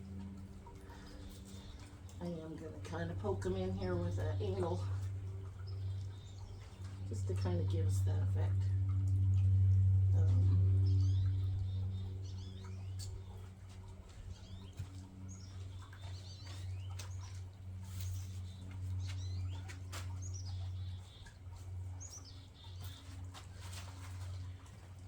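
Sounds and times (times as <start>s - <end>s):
small birds chirping: 0.0s - 8.6s, 10.2s - 24.6s
steady low hum: 0.0s - 25.0s.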